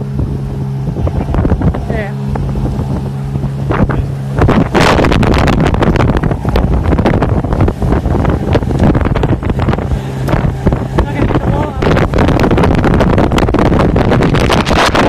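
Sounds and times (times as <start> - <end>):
boat motor droning: 0.0 - 15.0
storm wind buffeting microphone: 0.0 - 15.0.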